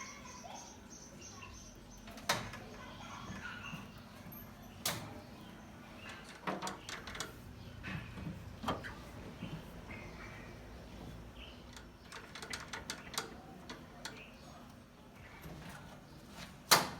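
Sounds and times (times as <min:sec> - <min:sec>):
faint background voices: 0:00.0 - 0:16.9.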